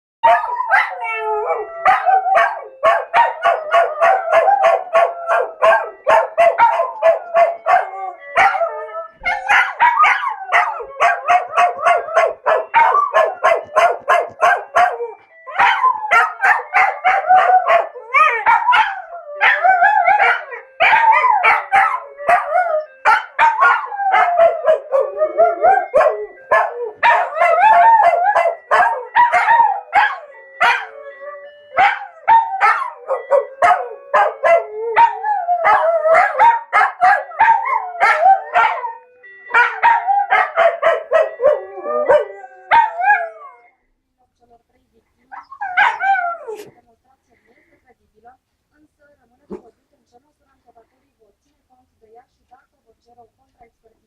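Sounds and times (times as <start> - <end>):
dogs howling: 0.2 - 43.7, 45.4 - 46.7
phone alarm ringtone: 0.2 - 44.0.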